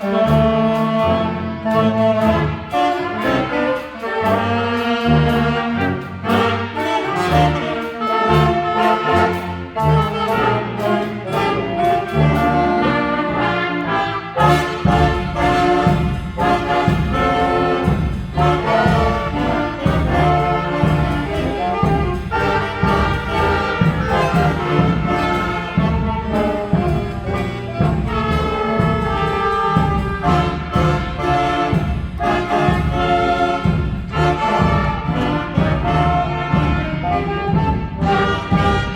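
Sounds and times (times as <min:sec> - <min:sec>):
bass: 0:00.0 - 0:38.9
brass band music: 0:00.0 - 0:38.9.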